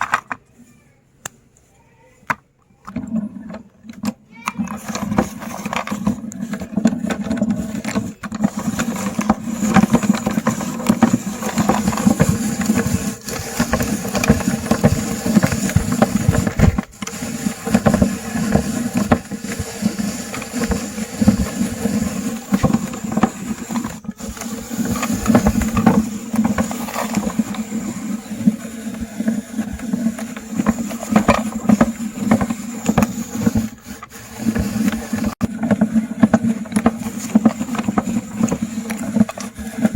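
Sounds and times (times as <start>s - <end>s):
meat grinder motor hum: 4.8s - 39.9s.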